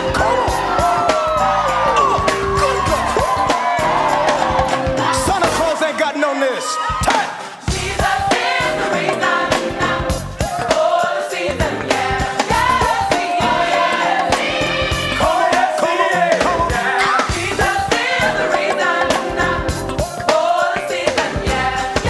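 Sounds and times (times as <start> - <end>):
steady drum beat: 0.0 - 6.0, 6.9 - 22.0
band accompaniment: 0.0 - 6.2, 7.0 - 22.0
choir singing: 0.0 - 22.0.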